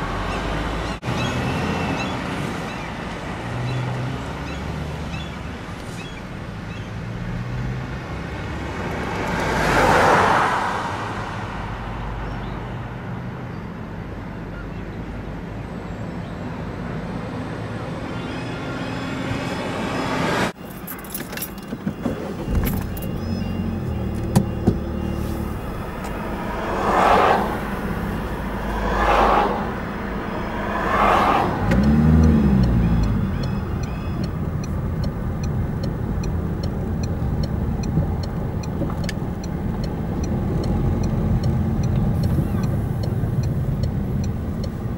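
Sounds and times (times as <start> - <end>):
car driving along road: 0.0 - 44.9
vehicles passing: 0.0 - 44.9.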